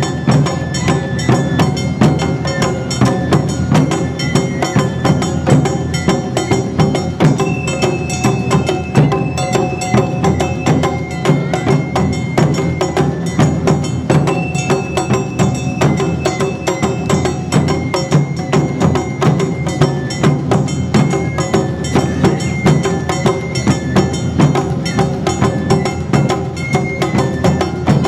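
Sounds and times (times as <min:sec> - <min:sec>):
small metal hand gongs: 0:00.0 - 0:28.0
taiko drums beating: 0:00.0 - 0:28.0.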